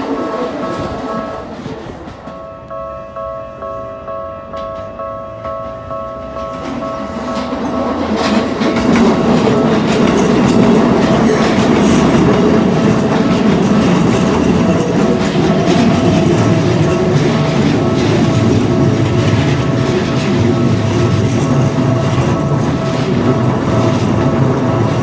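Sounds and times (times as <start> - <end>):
train wheels clattering over rails: 0.0 - 2.5, 5.6 - 25.0.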